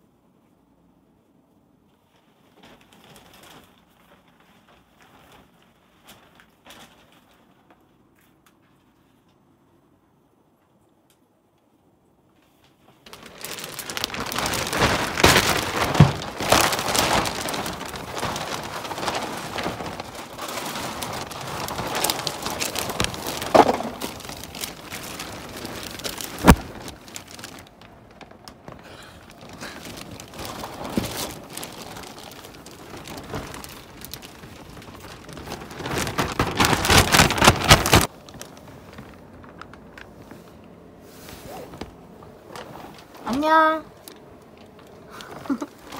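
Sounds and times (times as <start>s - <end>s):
plastic bag crinkling: 2.2s - 7.7s, 12.8s - 45.9s.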